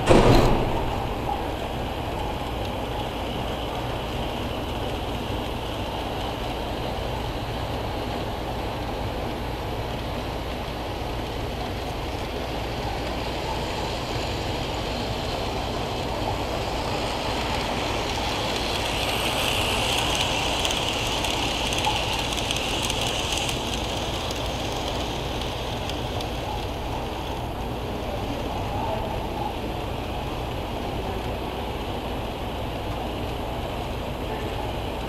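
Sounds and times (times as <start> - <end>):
model train rolling on track: 0.0 - 35.0.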